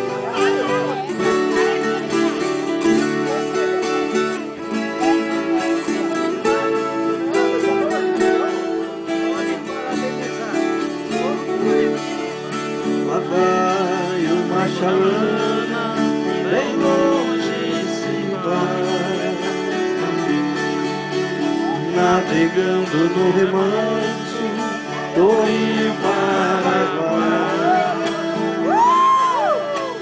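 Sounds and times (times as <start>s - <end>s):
picked string melody: 0.0s - 30.0s
strummed acoustic guitar: 0.0s - 30.0s.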